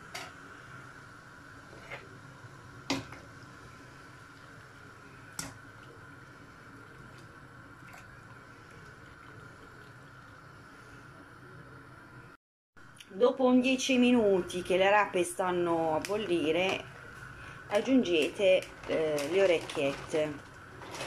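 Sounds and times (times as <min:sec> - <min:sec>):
water boiling in a pot: 0:00.0 - 0:12.4, 0:13.2 - 0:21.0
gas hob hum: 0:00.0 - 0:21.0.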